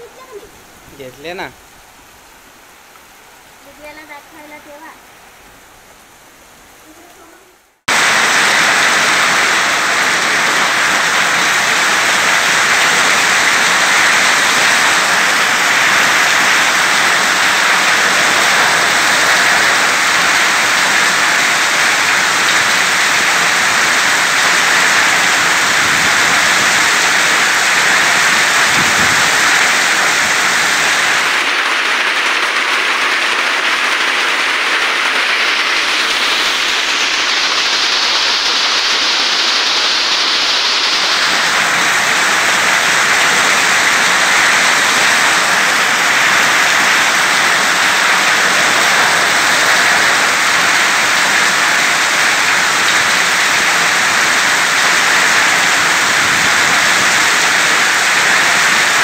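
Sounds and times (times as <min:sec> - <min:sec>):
hail and rain pelting ground: 0:00.0 - 0:01.5, 0:06.8 - 0:59.0.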